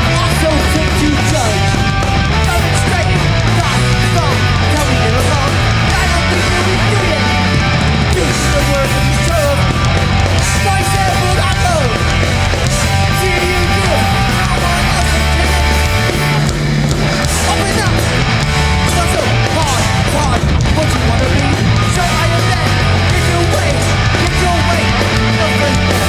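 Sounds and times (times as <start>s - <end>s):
hardcore band playing live: 0.0s - 26.0s.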